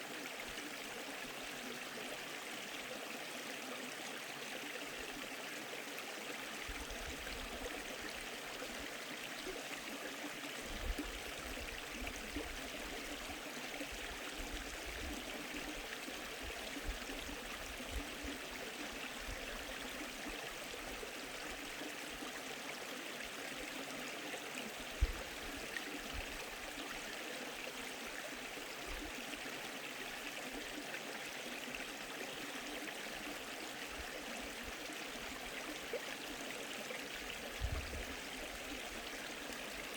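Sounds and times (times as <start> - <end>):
stream babbling: 7.6 - 39.9.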